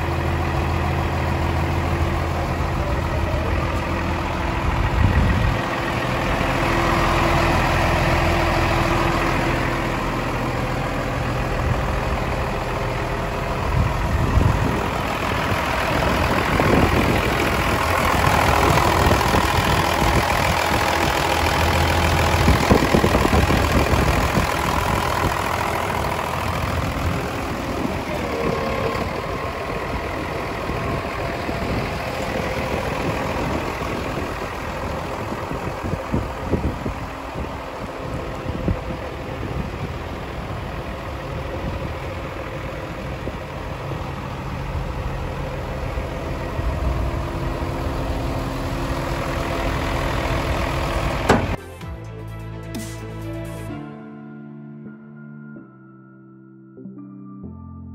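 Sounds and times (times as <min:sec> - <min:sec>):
diesel engine idling: 0:00.0 - 0:53.6.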